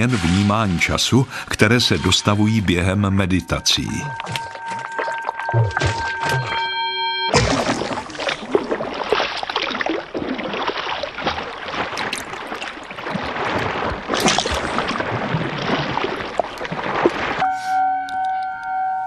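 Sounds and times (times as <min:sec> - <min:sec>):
water splashing and gurgling: 0:00.0 - 0:17.6.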